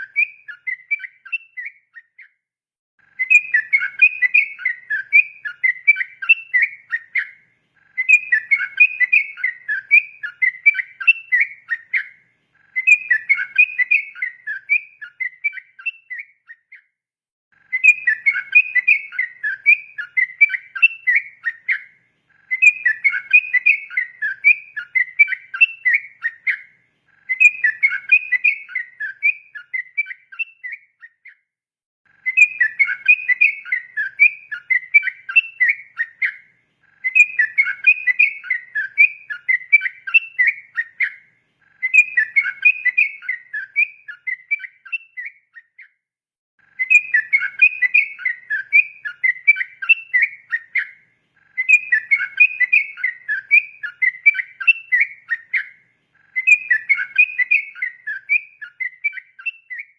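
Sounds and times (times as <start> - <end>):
bird singing chattering whistles: 0.0 - 2.4, 3.2 - 16.9, 17.7 - 31.4, 32.2 - 46.0, 46.8 - 59.9.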